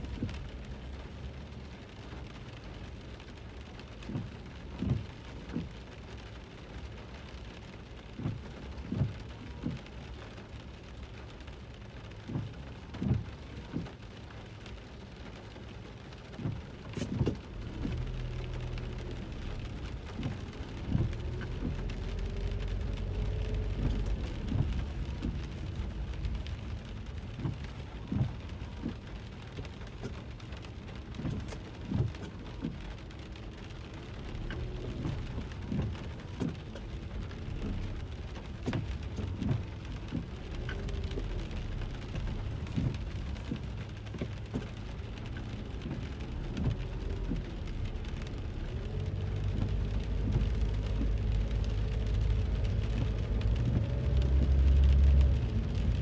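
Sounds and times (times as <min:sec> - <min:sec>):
moving car rumble: 0:00.0 - 0:56.0
rain pattering on a car: 0:00.0 - 0:56.0.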